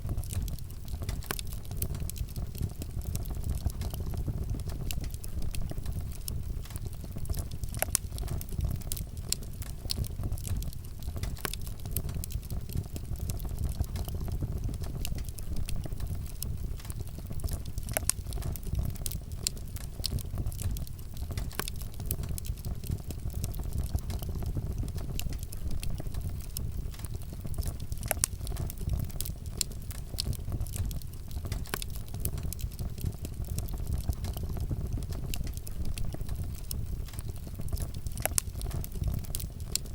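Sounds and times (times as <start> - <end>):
low fire rumble: 0.0 - 39.9
wood crackling and popping: 0.0 - 39.9.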